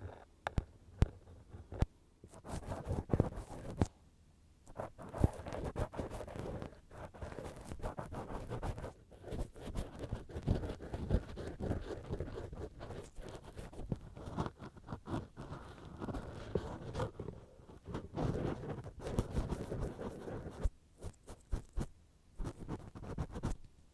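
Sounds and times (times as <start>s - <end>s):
cotton swab scraping microphone: 1.0s - 3.9s, 4.7s - 23.6s.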